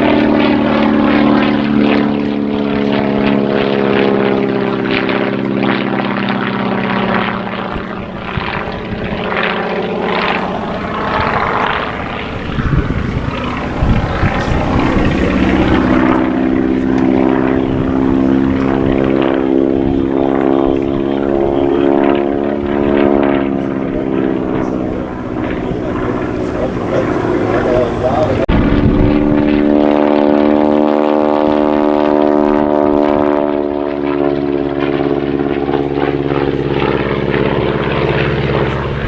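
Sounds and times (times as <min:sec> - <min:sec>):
model aircraft propeller engine: 0:00.0 - 0:39.0.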